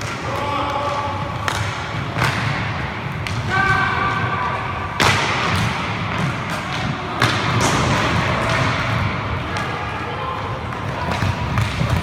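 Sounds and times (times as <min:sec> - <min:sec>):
hockey sticks and puck knocking: 0:00.0 - 0:09.9, 0:10.6 - 0:12.0
skates rumbling on rink floor: 0:00.0 - 0:12.0.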